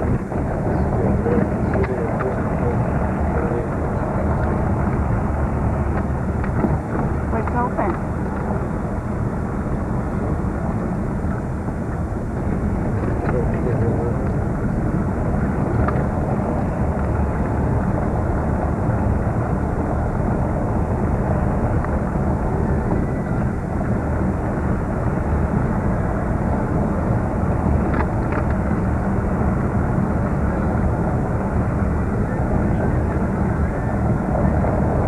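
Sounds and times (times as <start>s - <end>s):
road and engine noise in truck: 0.0s - 35.0s.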